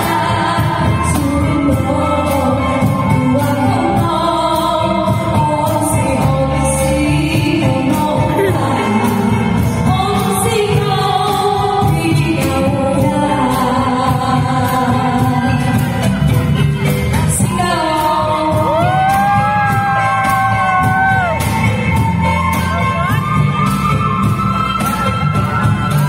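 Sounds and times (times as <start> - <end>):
live music with voices singing: 0.0 - 26.0.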